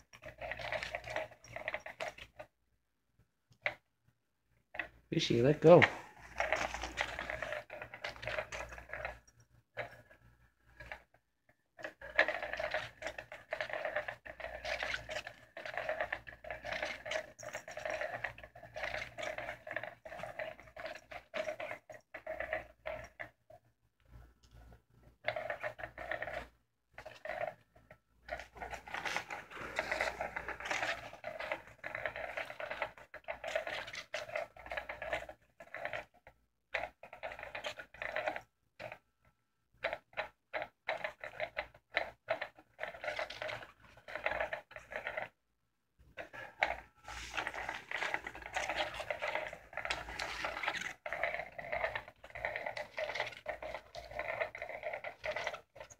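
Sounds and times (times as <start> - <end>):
toy motor whirring: 0.0 - 2.5, 4.7 - 23.6, 25.2 - 39.0, 39.8 - 45.4, 46.1 - 55.9.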